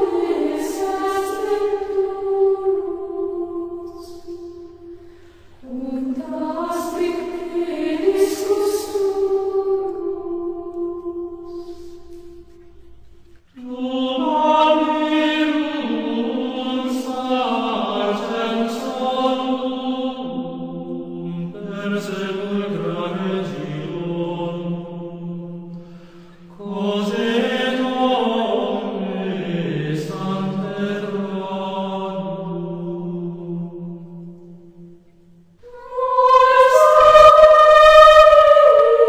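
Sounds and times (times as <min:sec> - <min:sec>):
slow sung chant: 0:00.0 - 0:39.0.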